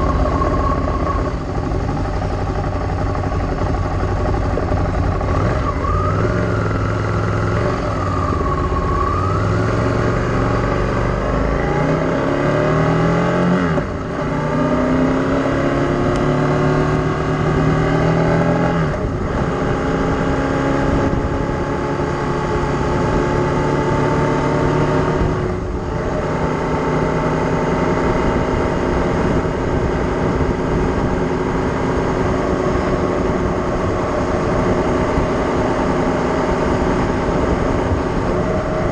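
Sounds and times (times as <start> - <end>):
engine accelerating through gears: 0.0 - 38.9.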